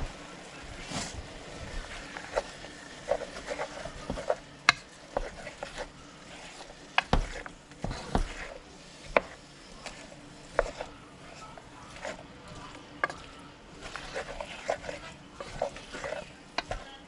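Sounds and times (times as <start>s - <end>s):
wooden spoon scraping saucepan: 0.0s - 17.0s.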